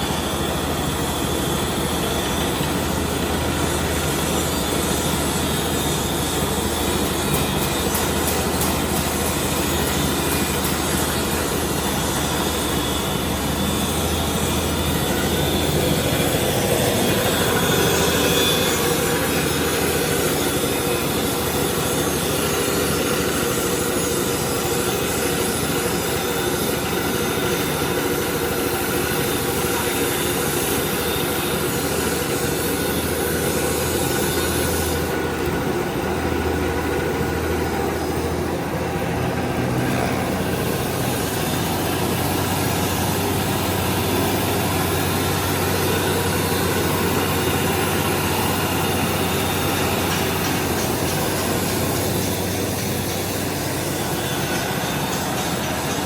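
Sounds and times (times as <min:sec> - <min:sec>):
engine hum: 0:00.0 - 0:56.0.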